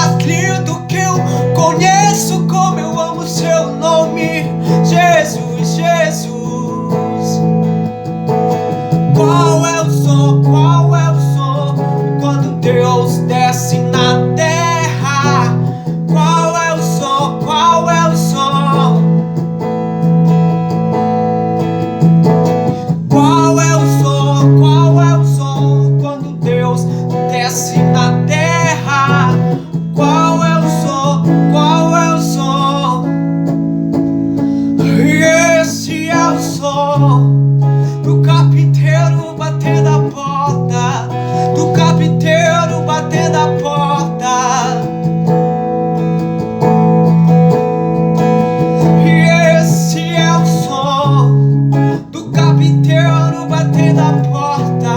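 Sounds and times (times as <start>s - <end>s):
man singing with vibrato: 0.0s - 20.1s, 22.4s - 54.9s
acoustic guitar chords: 0.0s - 54.9s.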